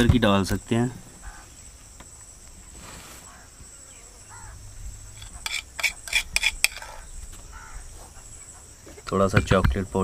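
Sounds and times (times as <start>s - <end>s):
crickets droning: 0.0s - 10.0s.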